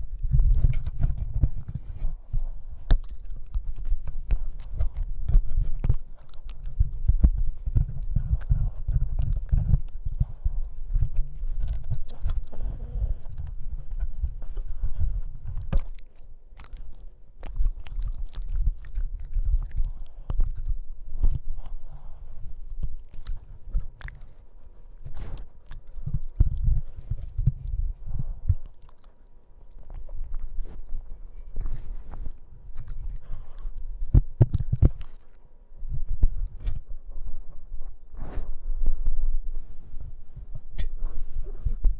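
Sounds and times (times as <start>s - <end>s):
puppy chewing on microphone: 0.0s - 41.9s.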